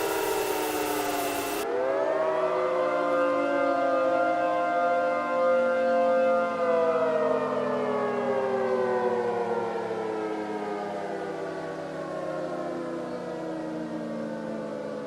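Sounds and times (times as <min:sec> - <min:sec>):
warning siren winding down: 0:00.0 - 0:15.0.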